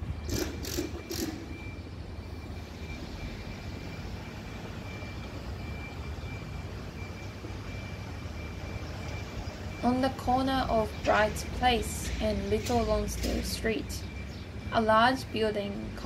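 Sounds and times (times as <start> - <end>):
low rumble of street traffic: 0.0 - 16.0.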